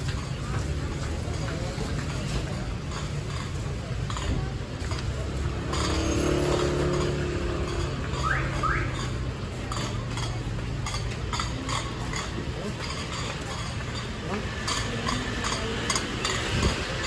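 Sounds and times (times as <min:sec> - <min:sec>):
engine hum: 0:00.0 - 0:17.0
traffic rumble: 0:00.0 - 0:17.0.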